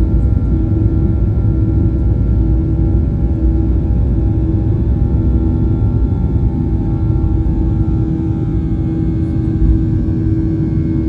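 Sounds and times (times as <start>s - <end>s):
engine tonal hum: 0.0s - 11.0s
jet engine rumble in cabin: 0.0s - 11.0s.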